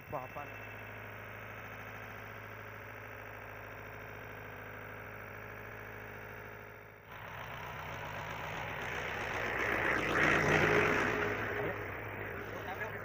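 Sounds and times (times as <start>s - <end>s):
vehicle engine approaching: 0.0s - 13.0s.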